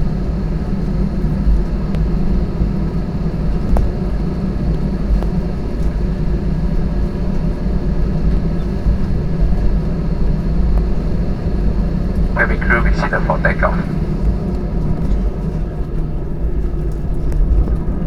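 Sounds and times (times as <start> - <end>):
jet engines humming in cabin: 0.0 - 18.0.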